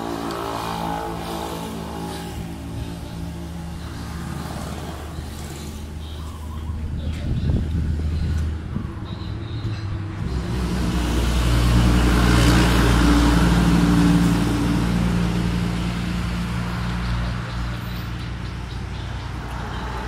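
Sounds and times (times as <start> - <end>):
vehicle engine passing by: 0.0 - 6.9, 9.9 - 20.0.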